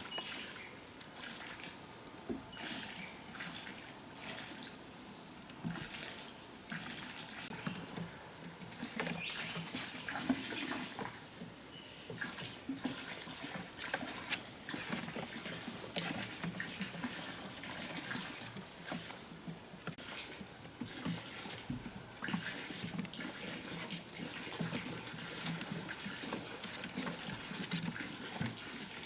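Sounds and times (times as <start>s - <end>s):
water splashing and trickling: 0.0s - 29.0s.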